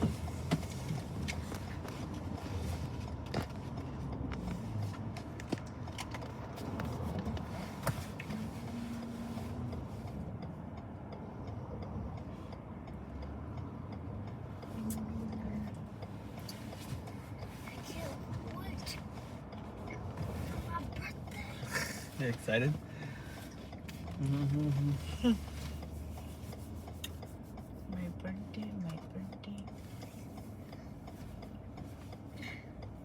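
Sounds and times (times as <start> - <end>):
road and engine rumble: 0.0 - 33.0.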